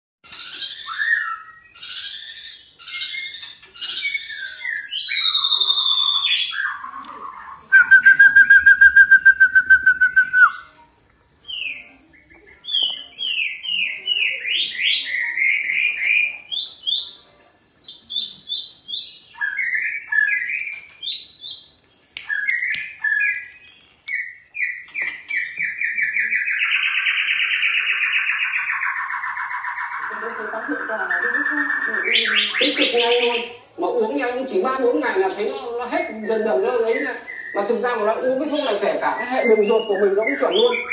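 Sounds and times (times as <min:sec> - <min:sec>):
fast bird trill: 0:00.2 - 0:09.6, 0:11.5 - 0:33.6, 0:34.6 - 0:40.9
songbird whistling song: 0:00.2 - 0:10.8, 0:11.4 - 0:33.7, 0:34.9 - 0:40.9.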